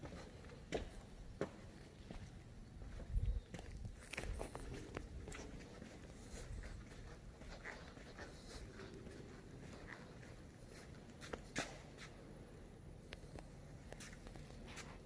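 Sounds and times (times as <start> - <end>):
low factory rumble: 0.0 - 13.8.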